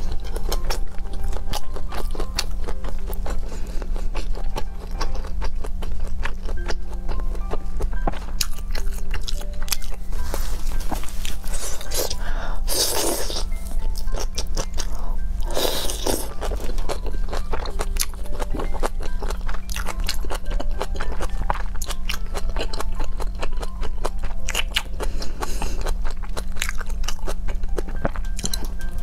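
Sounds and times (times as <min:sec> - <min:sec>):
chewing crunchy cabbage: 0:00.0 - 0:29.0
steady low hum: 0:00.0 - 0:29.0.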